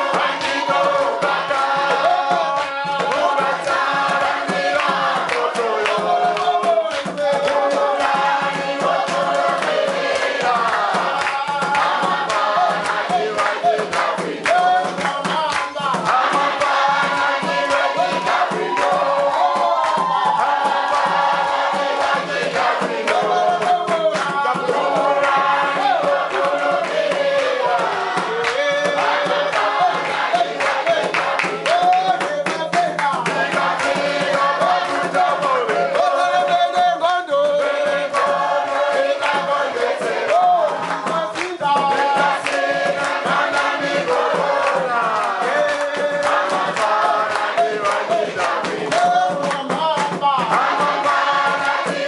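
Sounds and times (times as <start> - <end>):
congregation singing a hymn: 0.0 - 52.0
rhythmic hand clapping: 0.0 - 52.0.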